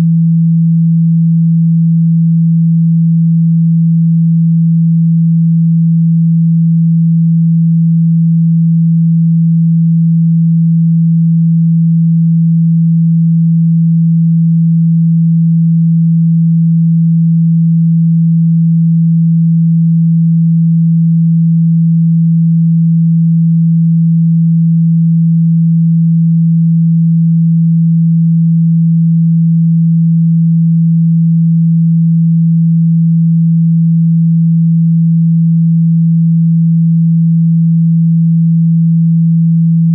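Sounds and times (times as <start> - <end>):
low sine-wave test tone: 0.0 - 39.9.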